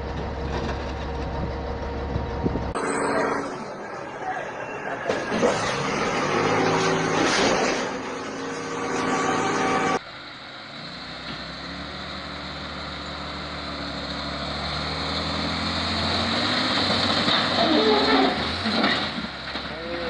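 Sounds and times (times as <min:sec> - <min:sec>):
dump truck diesel engine running: 0:00.0 - 0:20.0
loud engine and machinery noise: 0:00.0 - 0:20.0.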